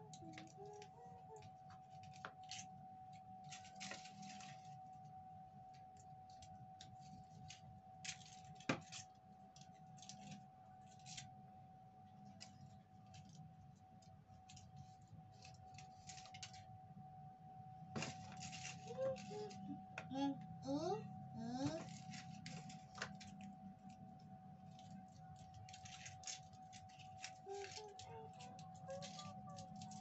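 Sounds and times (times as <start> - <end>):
faint steady hum: 0.0 - 30.0
small handling clicks and rustles: 0.1 - 17.0, 17.9 - 20.1, 21.6 - 30.0.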